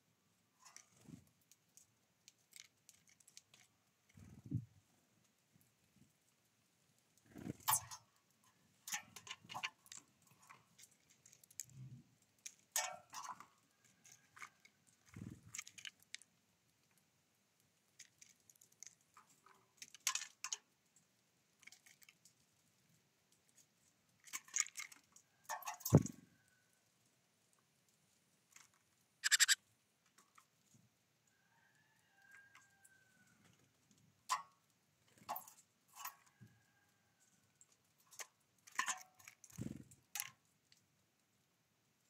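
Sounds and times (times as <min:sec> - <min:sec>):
birds pecking at seeds: 0:00.5 - 0:41.6.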